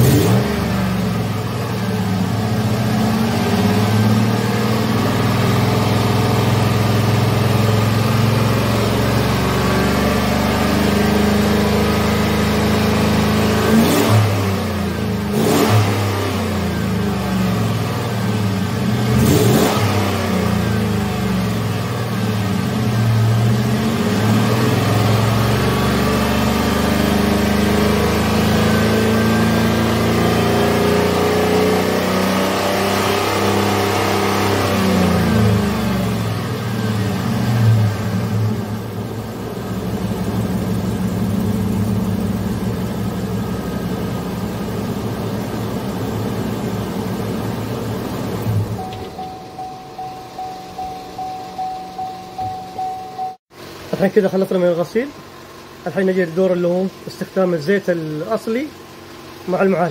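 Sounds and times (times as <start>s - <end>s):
car engine running: 0.0s - 32.2s, 33.7s - 59.9s.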